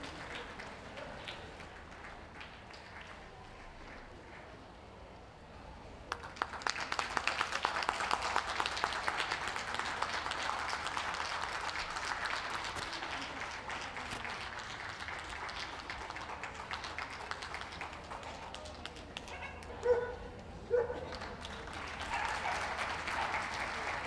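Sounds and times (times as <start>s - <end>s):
audience applauding: 0.0s - 4.4s, 6.1s - 19.8s, 21.0s - 24.0s.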